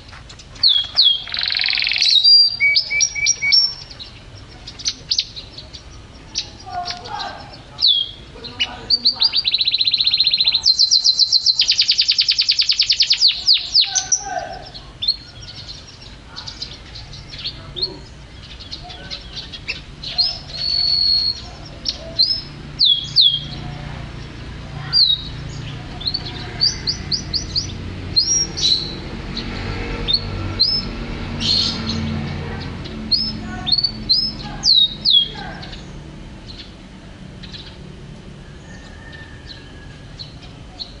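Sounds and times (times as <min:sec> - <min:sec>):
canary singing: 0:00.0 - 0:41.0.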